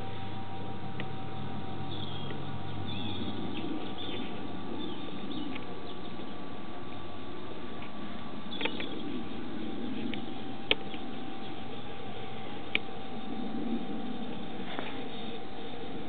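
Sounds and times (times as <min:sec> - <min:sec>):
low drone: 0:00.0 - 0:16.0
steady hiss and hum: 0:00.0 - 0:16.0.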